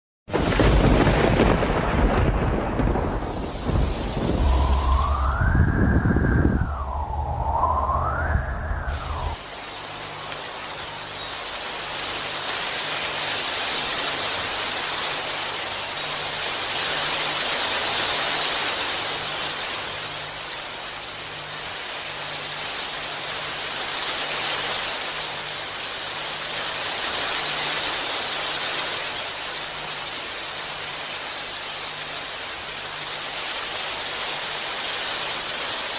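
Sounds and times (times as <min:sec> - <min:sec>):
heavy rain falling: 0:00.3 - 0:35.9.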